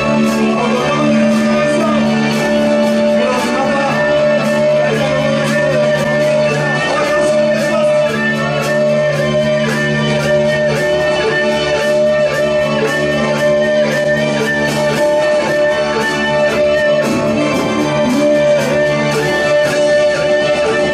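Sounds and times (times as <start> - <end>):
electric guitar: 0.0 - 20.9.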